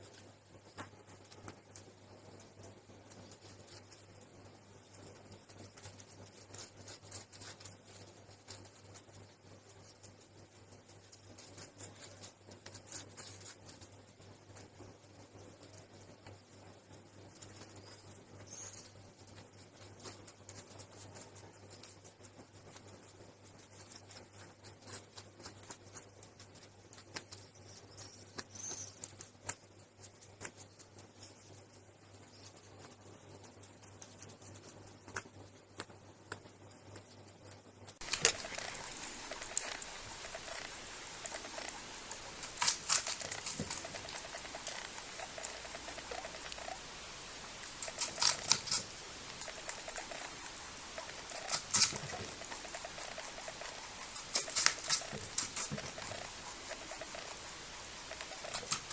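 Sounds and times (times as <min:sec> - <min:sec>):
low steady hum: 0:00.0 - 0:58.9
rabbit chewing: 0:00.0 - 0:58.9.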